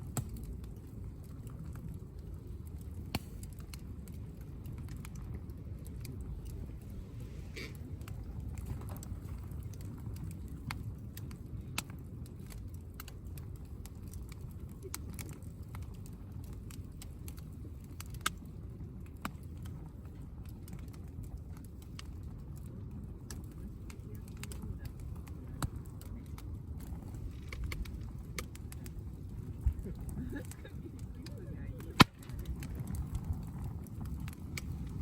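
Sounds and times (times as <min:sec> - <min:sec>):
campfire pops and snaps: 0:00.0 - 0:35.0
low rumble: 0:00.0 - 0:35.0.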